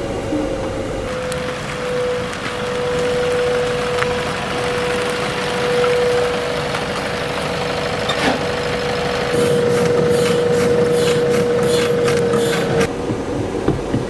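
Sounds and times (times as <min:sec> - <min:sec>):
diesel engine idling: 0:00.0 - 0:13.9
engine whine: 0:00.0 - 0:14.0.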